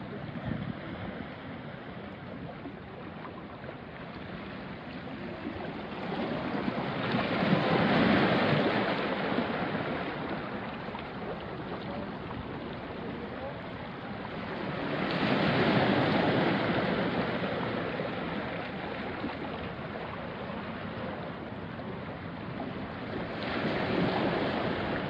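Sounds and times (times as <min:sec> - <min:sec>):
waves washing onto rocky shore: 0:00.0 - 0:25.0.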